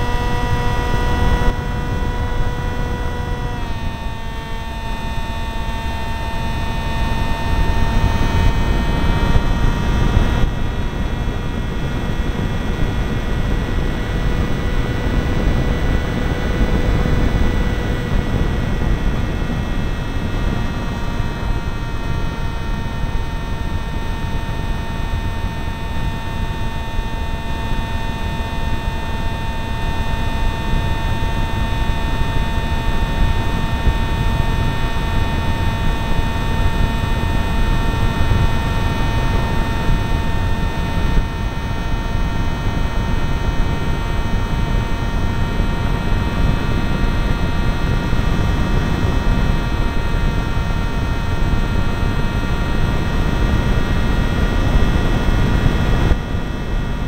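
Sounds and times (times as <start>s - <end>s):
motor and propeller whine: 0.0s - 57.0s.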